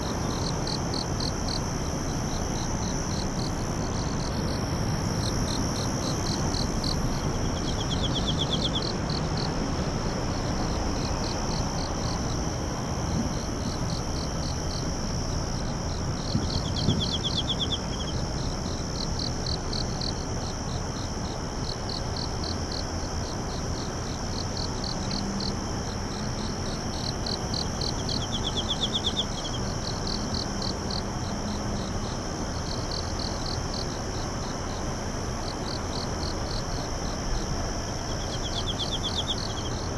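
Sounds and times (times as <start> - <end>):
insects droning and chirping: 0.0 - 39.9
steady hiss: 0.0 - 39.9.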